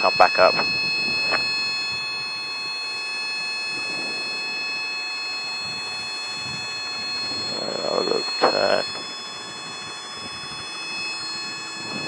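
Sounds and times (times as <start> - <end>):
helicopter rotor and airflow rush: 0.0 - 12.0
high steady whining tones: 0.0 - 12.0.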